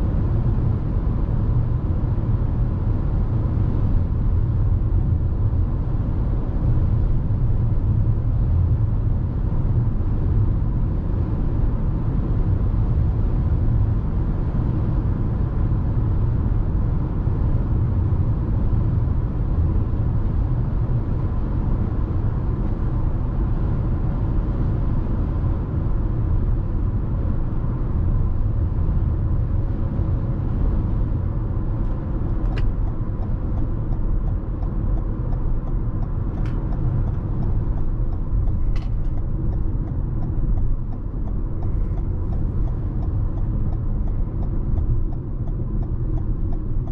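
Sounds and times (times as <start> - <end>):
road and tyre rumble: 0.0 - 46.9.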